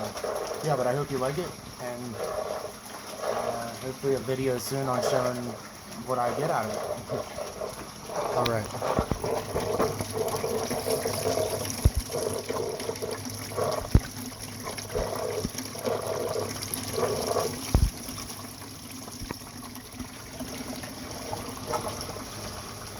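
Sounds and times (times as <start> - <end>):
steady low pump hum: 0.0 - 22.9
water running and gurgling: 0.0 - 22.9.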